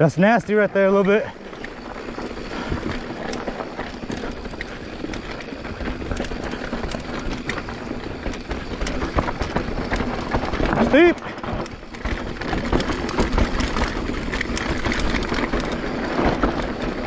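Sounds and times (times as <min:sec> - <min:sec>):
bike knocks and rattles: 0:00.0 - 0:17.0
bike tyres grinding over stones: 0:00.0 - 0:17.0
wind rumble on microphone: 0:00.6 - 0:17.0.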